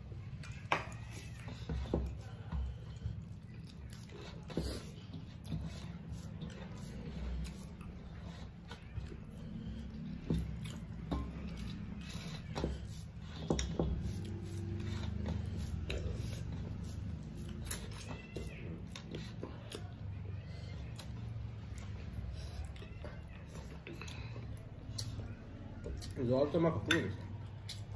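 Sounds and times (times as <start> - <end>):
chewing and mouth clicks: 0.2 - 12.6, 13.2 - 27.9.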